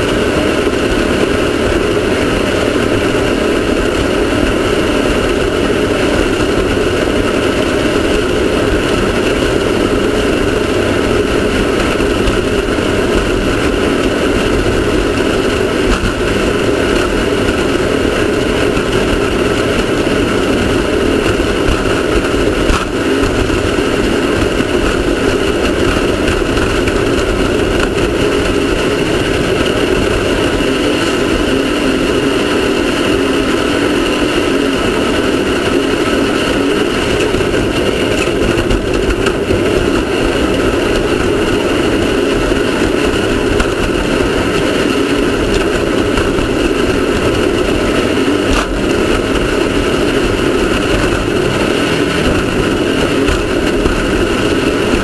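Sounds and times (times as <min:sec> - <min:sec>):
race car engine running: 0:00.0 - 0:55.0
rushing noise: 0:00.0 - 0:55.0.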